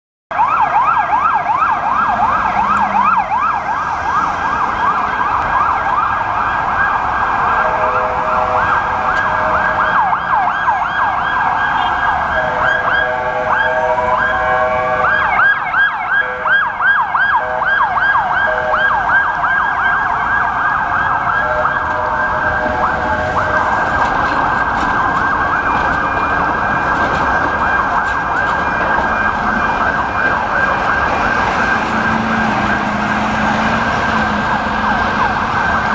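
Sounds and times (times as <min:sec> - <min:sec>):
city traffic: 0:00.3 - 0:35.9
emergency vehicle sirens: 0:00.3 - 0:35.9.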